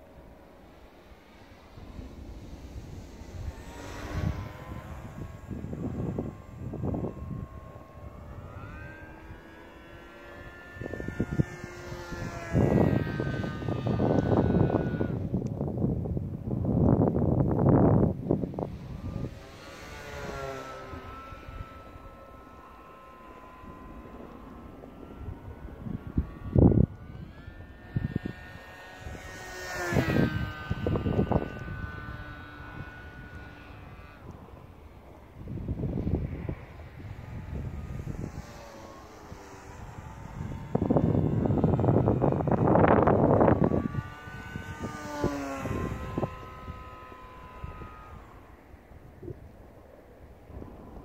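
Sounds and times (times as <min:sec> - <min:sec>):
model airplane motor whining: 0:00.0 - 0:51.0
wind buffeting microphone: 0:00.0 - 0:51.0.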